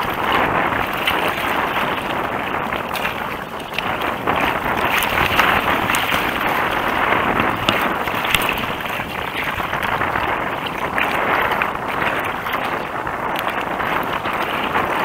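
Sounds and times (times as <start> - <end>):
waves splashing against a kayak: 0.0 - 15.0
wind on microphone: 0.0 - 15.0.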